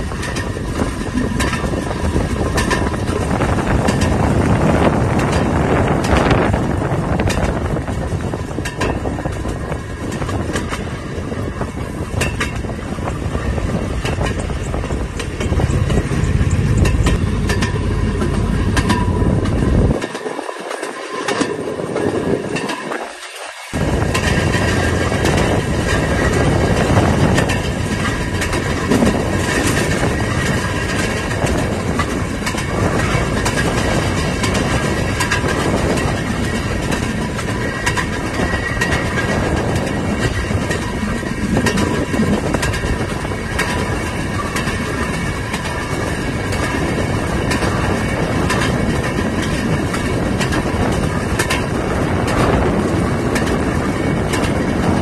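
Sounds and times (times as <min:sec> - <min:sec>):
railroad speeder rolling on track: 0:00.0 - 0:55.0
steel wheels clicking on rail joints: 0:00.0 - 0:55.0.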